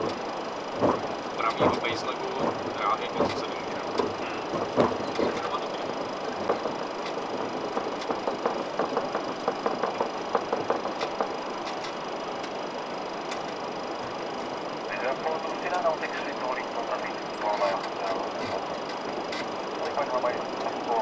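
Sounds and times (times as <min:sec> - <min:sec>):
steady rush with high whines: 0:00.0 - 0:21.0.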